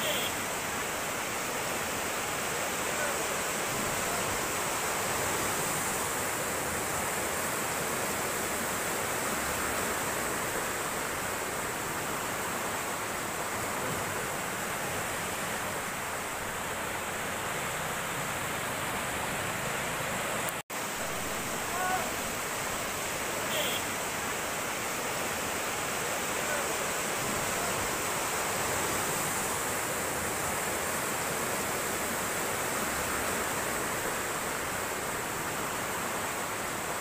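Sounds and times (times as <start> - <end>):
river rushing past bridge piers: 0.0 - 37.0.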